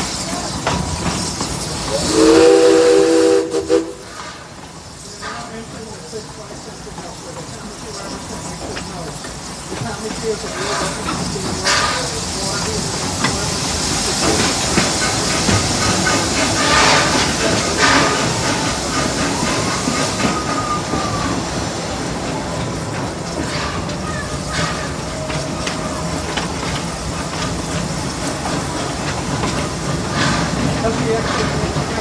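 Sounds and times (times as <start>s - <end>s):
train rumble and track rattle: 0.0s - 32.0s.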